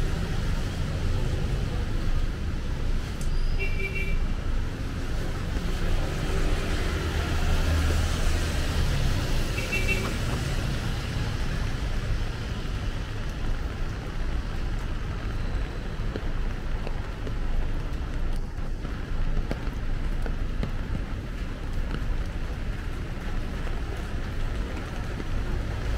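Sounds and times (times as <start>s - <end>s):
tyres hissing on wet road: 0.0s - 25.9s.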